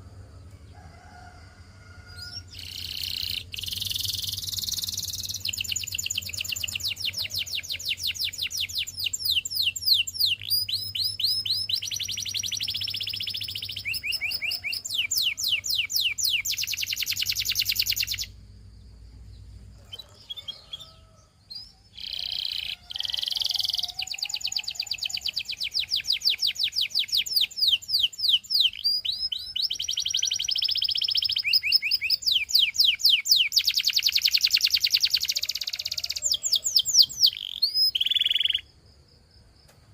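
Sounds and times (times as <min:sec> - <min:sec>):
canary singing trills: 0:02.1 - 0:18.4, 0:19.2 - 0:38.7.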